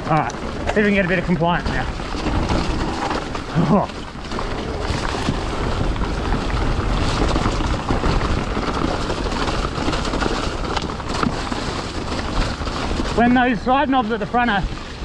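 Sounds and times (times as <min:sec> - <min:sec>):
bike knocking and rattling: 0:00.0 - 0:15.0
bike tyres rushing on trail: 0:00.0 - 0:15.0
wind buffeting microphone: 0:00.0 - 0:15.0.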